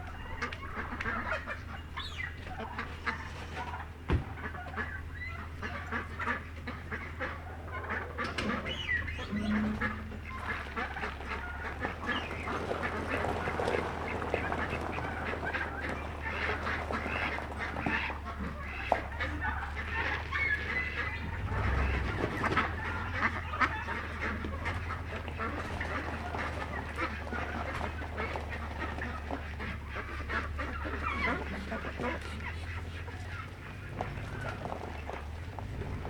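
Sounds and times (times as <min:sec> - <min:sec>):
poultry quacking and honking: 0:00.0 - 0:36.0.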